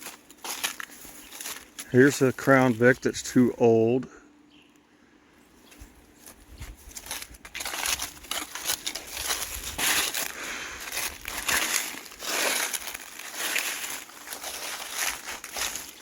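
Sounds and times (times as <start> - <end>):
footsteps crunching through dry brush: 0.0 - 3.6, 5.4 - 16.0.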